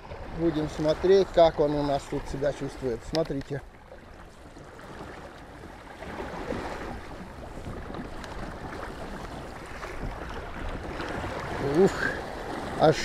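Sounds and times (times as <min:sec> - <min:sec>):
water rushing along a hull: 0:00.0 - 0:13.0
wind buffeting the microphone: 0:00.0 - 0:13.0.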